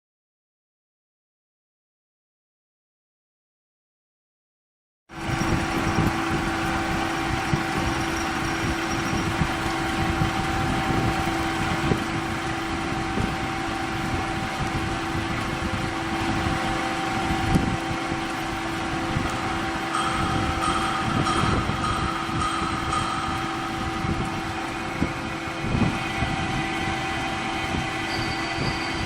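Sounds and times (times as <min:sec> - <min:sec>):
drilling machine hum and whine: 0:05.1 - 0:29.0.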